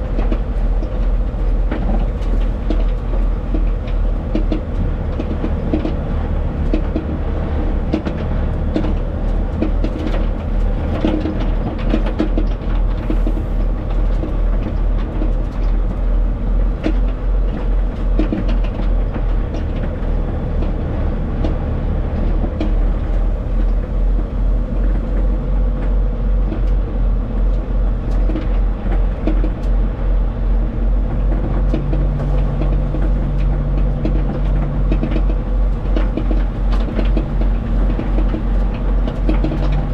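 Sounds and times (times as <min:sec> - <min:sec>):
truck diesel and road rumble: 0:00.0 - 0:39.9.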